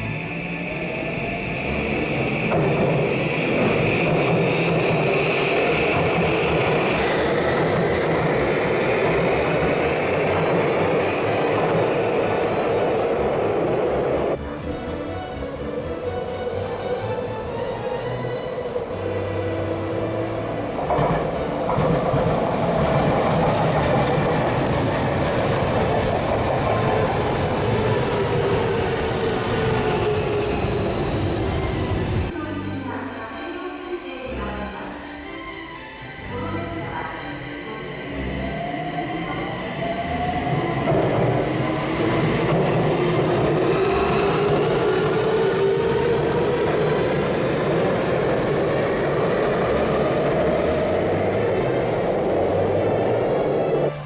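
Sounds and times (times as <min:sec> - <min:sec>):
electric train passing: 0:00.0 - 0:32.3, 0:32.9 - 0:54.0.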